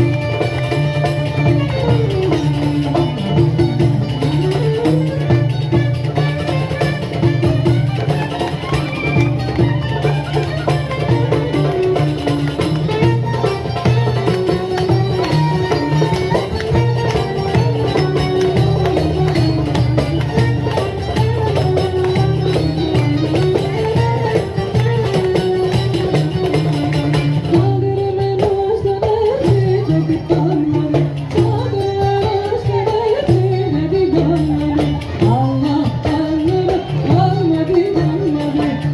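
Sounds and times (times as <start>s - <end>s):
folk band melody: 0.0s - 38.9s
hand drum rhythm: 0.0s - 38.9s.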